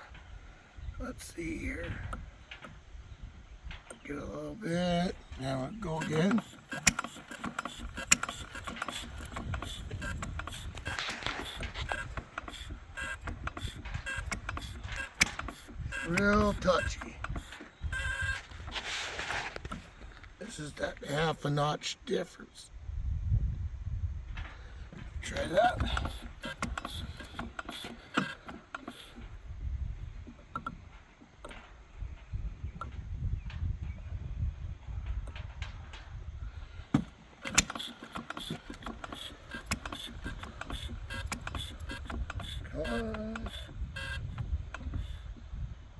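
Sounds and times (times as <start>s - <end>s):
old engine clattering unevenly: 3.6s - 22.1s, 24.8s - 45.9s
sharp clicks: 3.7s - 22.2s, 24.9s - 33.7s, 35.2s - 45.7s.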